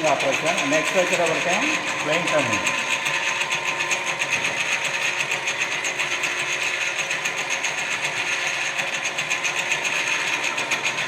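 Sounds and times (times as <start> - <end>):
lathe whirring hum: 0.0 - 11.0.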